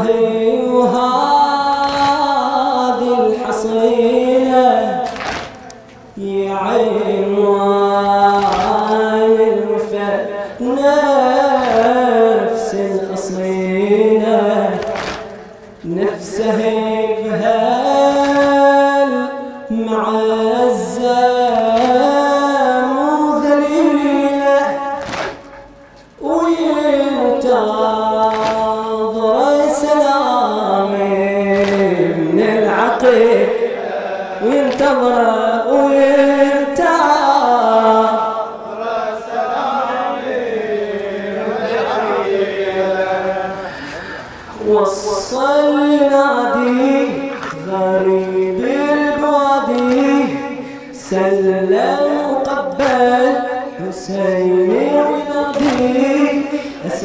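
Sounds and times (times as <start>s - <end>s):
man chanting into a microphone: 0.0s - 57.0s.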